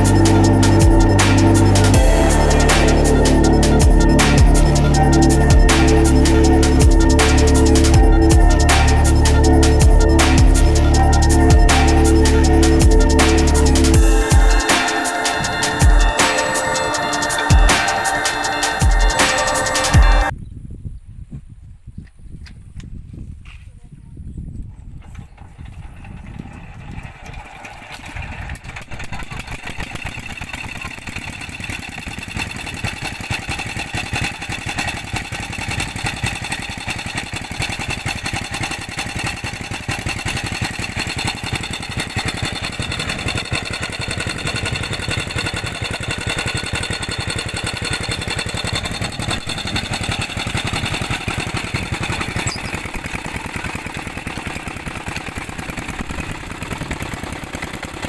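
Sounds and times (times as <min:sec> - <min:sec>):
diesel engine running: 0:00.0 - 0:20.3, 0:25.0 - 0:58.0.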